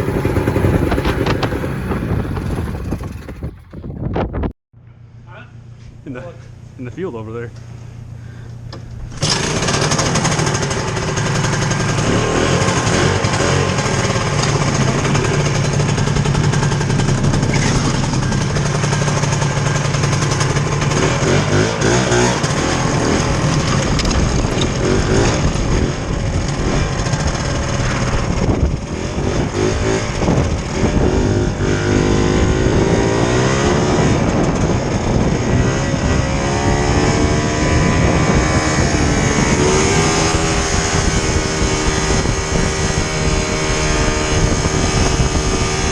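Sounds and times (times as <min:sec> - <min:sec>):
two-stroke snowmobile engine: 0:00.0 - 0:03.7, 0:09.1 - 0:45.9.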